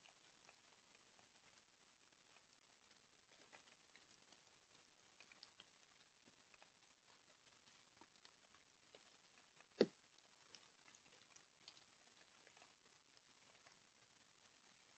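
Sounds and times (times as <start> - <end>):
light rain pattering: 0.0 - 14.9.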